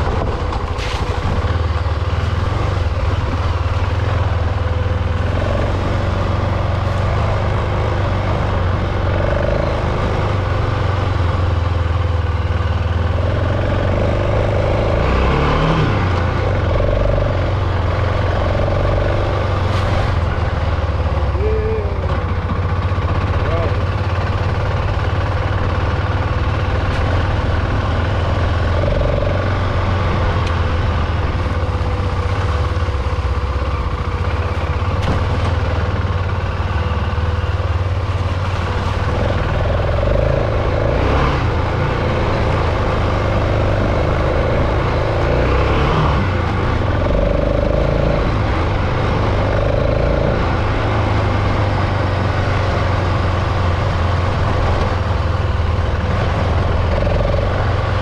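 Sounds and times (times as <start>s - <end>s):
single-cylinder motorcycle engine running: 0.0s - 58.0s.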